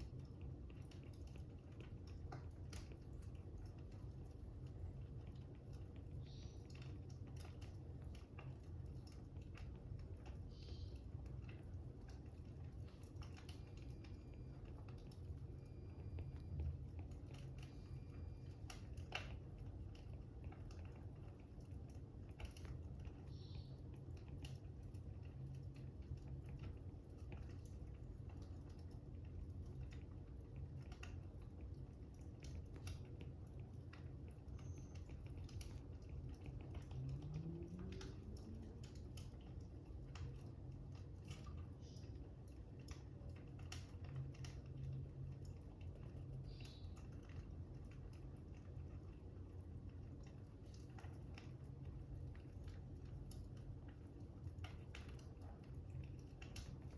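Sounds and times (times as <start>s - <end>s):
fire crackling with soft pops: 0.0s - 56.9s
low steady rumble: 0.0s - 56.9s.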